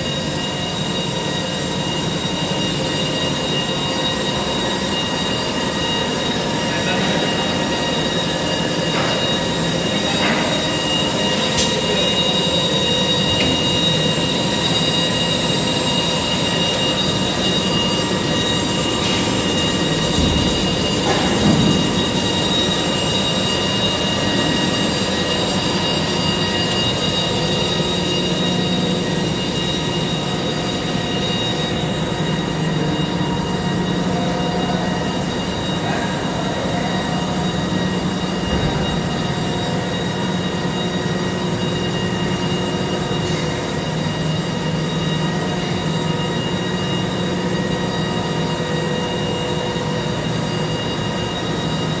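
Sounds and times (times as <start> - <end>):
high whining tones: 0.0 - 52.0
laminating machine droning: 0.0 - 52.0.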